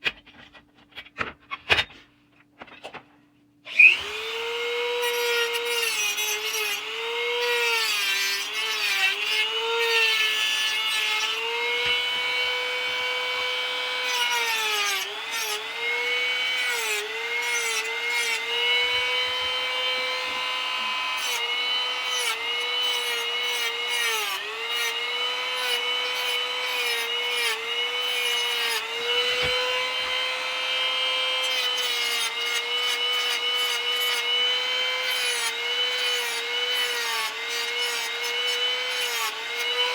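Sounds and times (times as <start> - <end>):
power tool motor whining: 3.7 - 39.9
tool scraping surface: 7.7 - 39.9.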